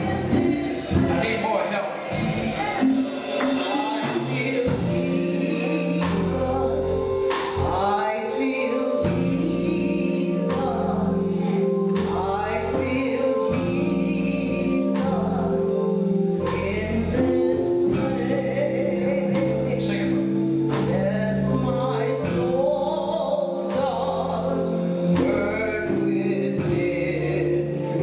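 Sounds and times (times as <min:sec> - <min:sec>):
gospel choir singing: 0:00.0 - 0:28.0
instrumental accompaniment: 0:00.0 - 0:28.0.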